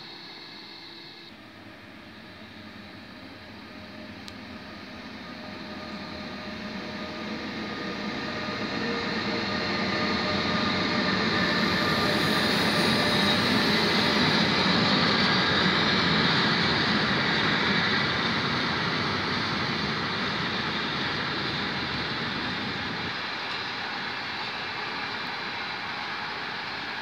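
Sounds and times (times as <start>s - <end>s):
locomotive whining tones: 0.0s - 27.0s.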